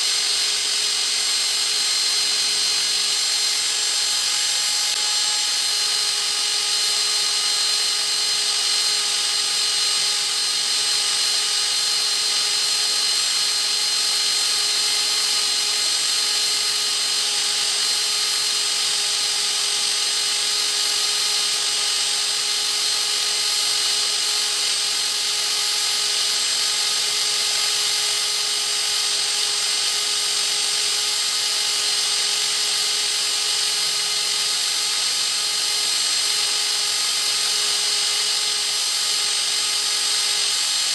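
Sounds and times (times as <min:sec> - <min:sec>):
power tool whining: 0:00.0 - 0:40.9.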